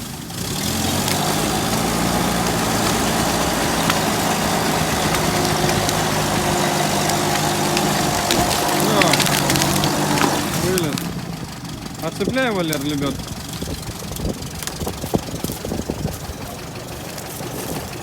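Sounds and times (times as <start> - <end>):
vehicle engine running at low revs: 0.0 - 18.0.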